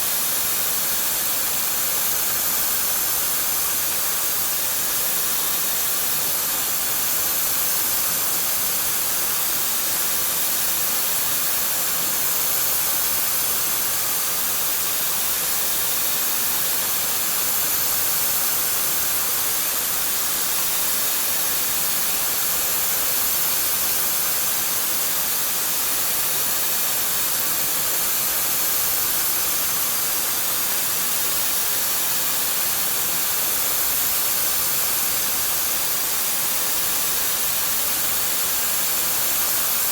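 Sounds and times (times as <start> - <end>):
machine cutting metal hiss: 0.0 - 39.9.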